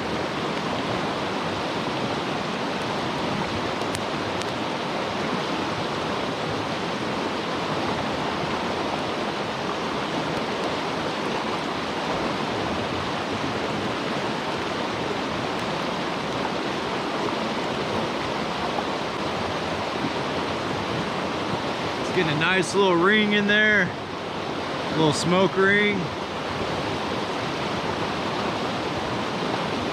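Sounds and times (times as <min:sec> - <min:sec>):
water rushing: 0:00.0 - 0:29.9.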